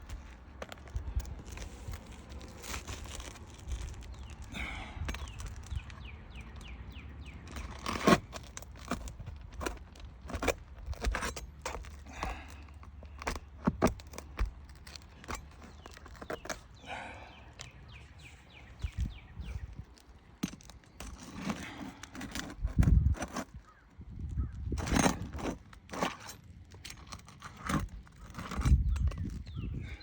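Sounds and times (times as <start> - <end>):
tool scraping and knocking on shingles: 0.0 - 29.9.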